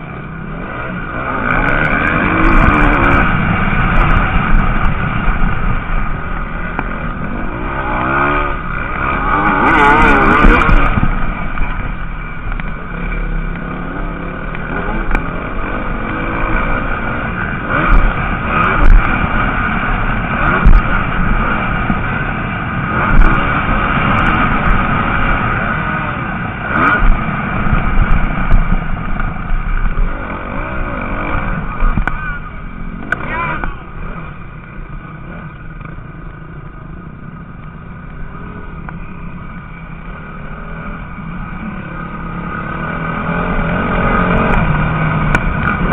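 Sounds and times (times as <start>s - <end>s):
motocross bike engines revving: 0.0s - 45.9s.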